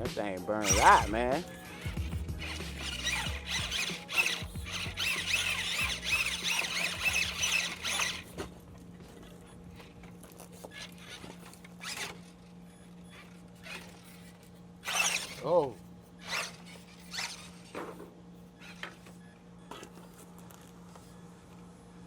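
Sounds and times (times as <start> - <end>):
steady low hum: 0.0 - 22.0
electric toy car motor whining: 0.6 - 20.0.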